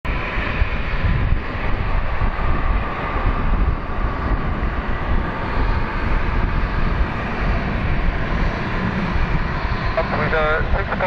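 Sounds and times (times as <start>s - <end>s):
wind rumbling on microphone: 0.0s - 11.0s
jet engines rushing: 0.1s - 11.0s.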